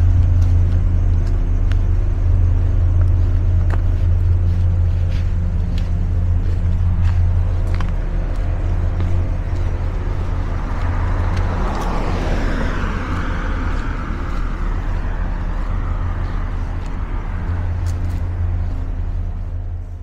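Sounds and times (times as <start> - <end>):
car passing: 0.0 - 20.0
steady low hum: 0.0 - 20.0.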